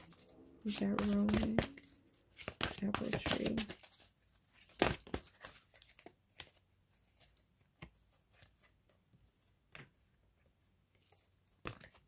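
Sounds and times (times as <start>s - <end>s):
cards being shuffled: 0.0s - 8.8s, 11.0s - 12.0s.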